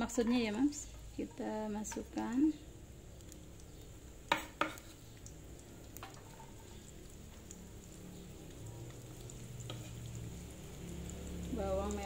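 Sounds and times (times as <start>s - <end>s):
shallots frying in oil: 0.0s - 12.0s.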